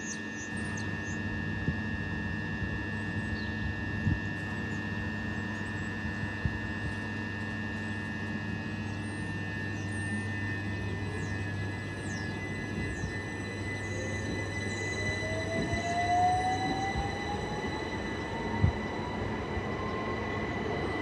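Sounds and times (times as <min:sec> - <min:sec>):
high-pitched electrical whine: 0:00.0 - 0:21.0
low hum: 0:00.0 - 0:21.0.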